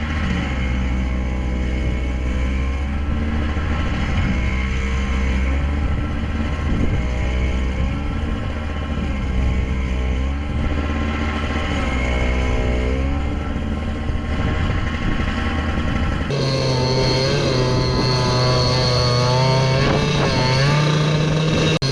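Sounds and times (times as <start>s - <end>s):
snowblower engine running: 0.0s - 21.9s.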